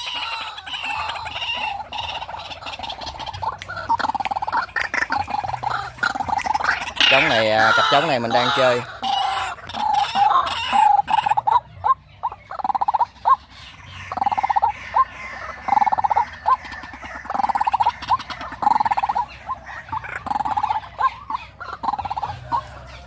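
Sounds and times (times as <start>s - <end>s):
waterhens calling: 0.0s - 23.0s.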